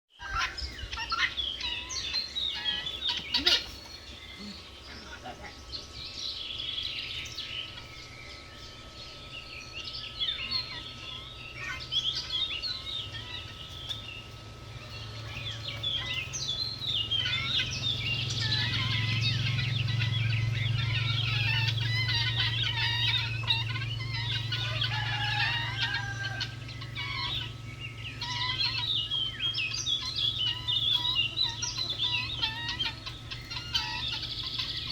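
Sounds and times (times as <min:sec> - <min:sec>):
birds chirping: 0:00.1 - 0:34.9
low hum: 0:00.2 - 0:34.9.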